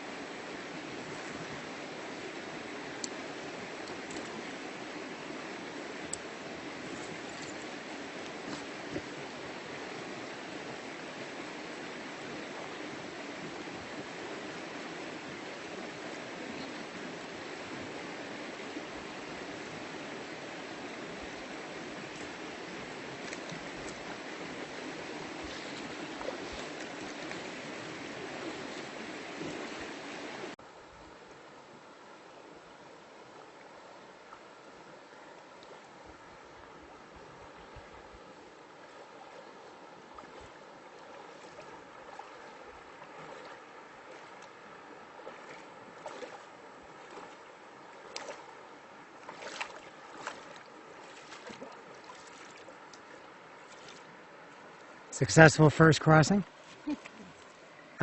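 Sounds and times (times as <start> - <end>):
river water rushing: 0.0 - 58.0
splashes of wading: 0.7 - 30.6, 35.6 - 55.1, 56.4 - 58.0.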